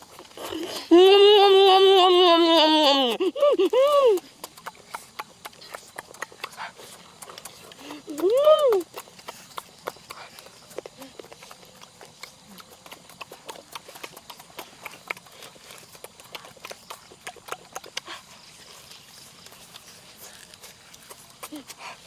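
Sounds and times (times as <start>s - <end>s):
person chewing and smacking: 0.0s - 1.2s, 3.2s - 22.0s.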